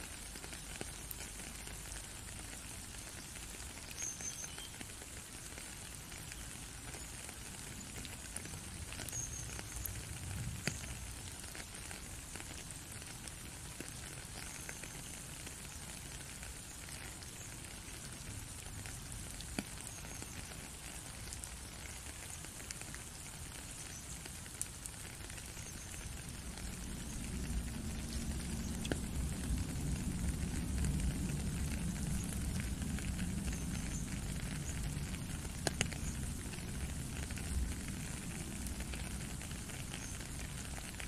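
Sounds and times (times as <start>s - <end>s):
rain hissing: 0.0s - 41.0s
raindrops ticking: 0.0s - 41.0s.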